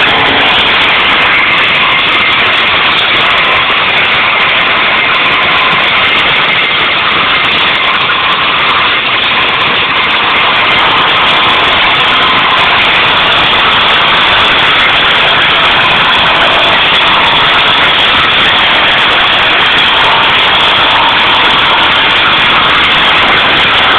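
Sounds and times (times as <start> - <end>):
wood chipper running: 0.0 - 23.9.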